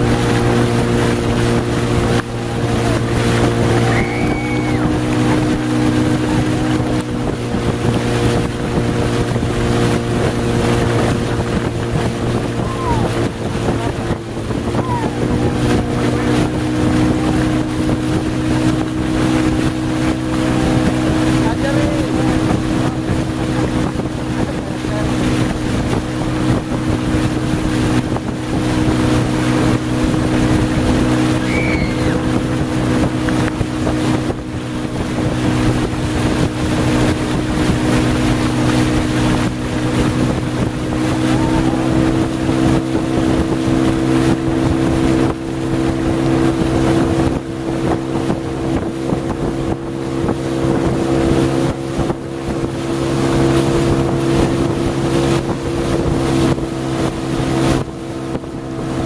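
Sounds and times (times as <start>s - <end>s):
outboard motor running: 0.0s - 59.0s
water rushing past: 0.0s - 59.0s
wind buffeting microphone: 0.0s - 59.0s.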